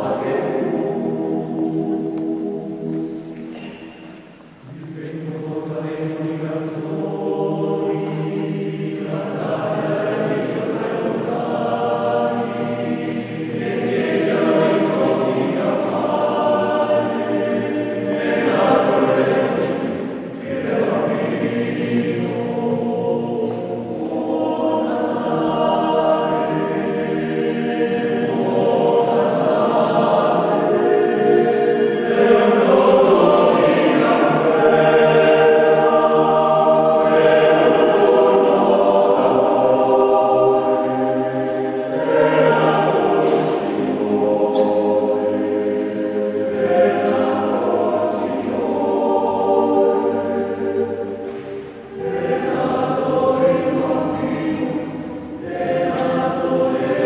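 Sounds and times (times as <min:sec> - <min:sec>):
choir singing unaccompanied: 0:00.0 - 0:57.0.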